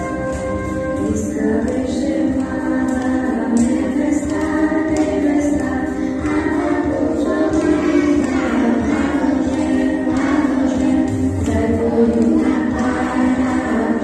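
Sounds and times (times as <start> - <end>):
choir singing with music: 0.0 - 14.0.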